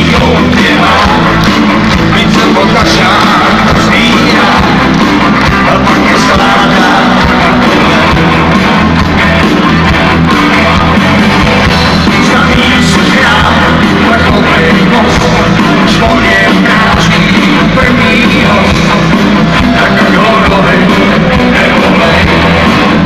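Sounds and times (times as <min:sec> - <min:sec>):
lead singer: 0:00.0 - 0:23.0
live rock band playing: 0:00.0 - 0:23.0.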